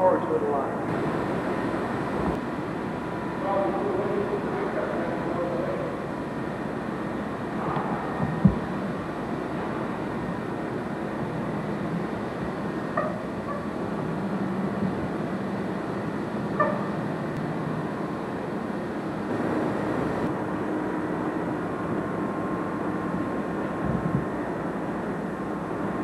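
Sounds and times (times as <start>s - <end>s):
streetcar mechanical hum: 0.0s - 26.0s.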